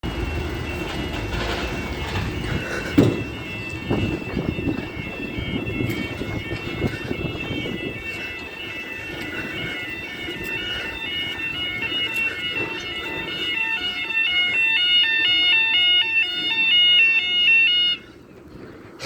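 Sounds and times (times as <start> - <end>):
level crossing alarm two-tone: 0.0 - 18.1.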